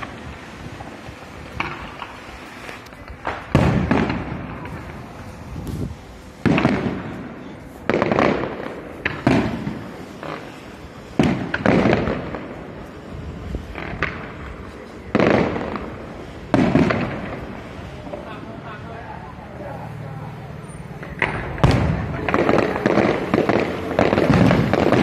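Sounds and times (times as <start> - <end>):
firework booms: 0.0 - 19.0, 20.9 - 25.0
small firework pops: 1.5 - 13.0, 13.6 - 18.4, 21.0 - 25.0.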